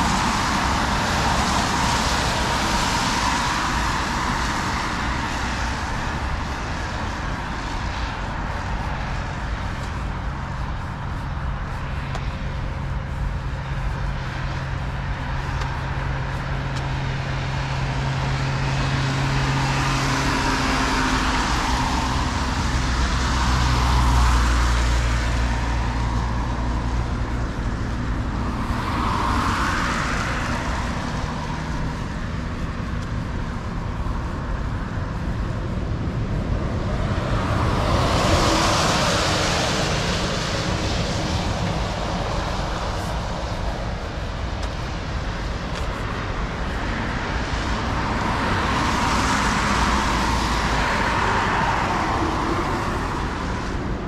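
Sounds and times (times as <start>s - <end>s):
cars passing: 0.0s - 54.0s
low engine hum: 0.0s - 54.0s.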